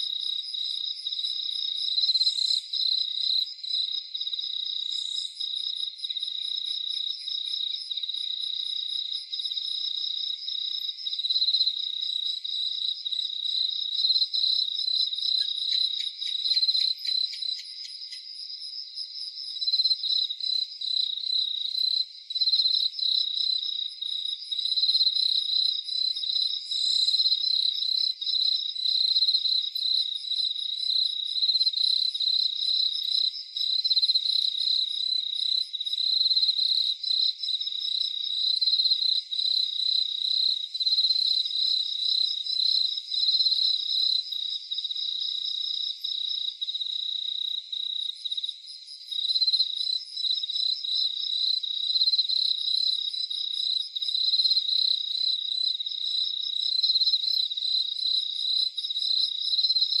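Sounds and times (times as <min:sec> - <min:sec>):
crickets chirping: 0:00.0 - 1:00.0.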